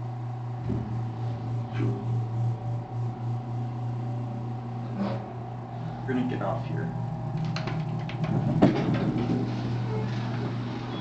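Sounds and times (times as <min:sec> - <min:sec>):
elevator hum and rumble: 0:00.0 - 0:11.0.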